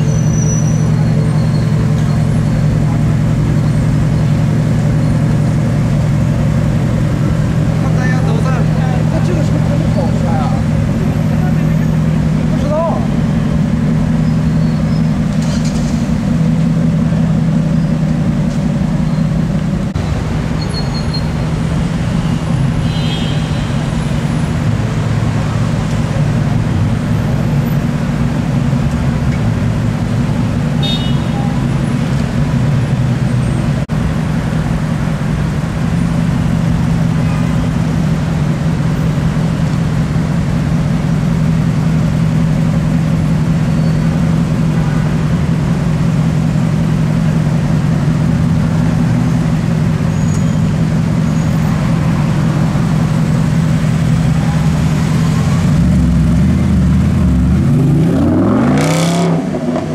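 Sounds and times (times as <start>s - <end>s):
car engine rumbling: 0.0s - 59.9s
street traffic: 0.0s - 59.9s.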